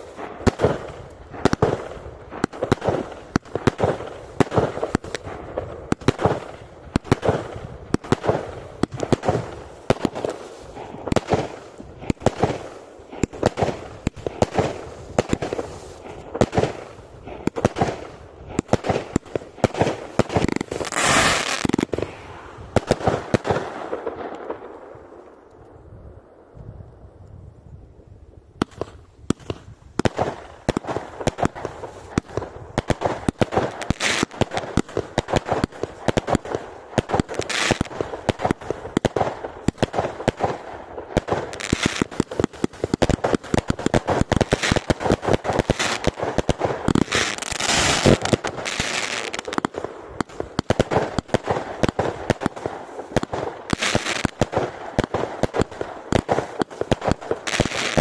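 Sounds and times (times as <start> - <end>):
fireworks bangs and crackling: 0.0 - 25.4, 28.6 - 58.0
hissing crackle of fireworks: 0.0 - 25.4, 28.6 - 58.0.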